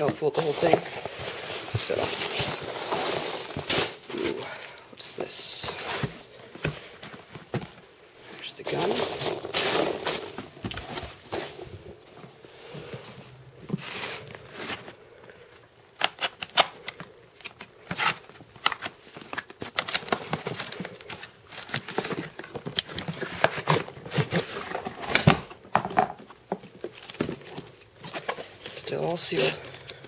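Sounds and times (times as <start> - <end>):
packaging rustling: 0.0 - 12.4, 13.7 - 25.6.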